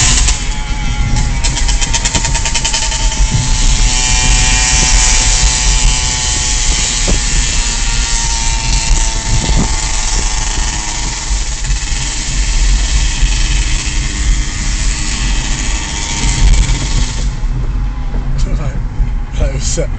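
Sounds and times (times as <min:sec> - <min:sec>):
dirt bike engine running: 0:00.0 - 0:17.8
heavy rushing noise: 0:00.0 - 0:19.9.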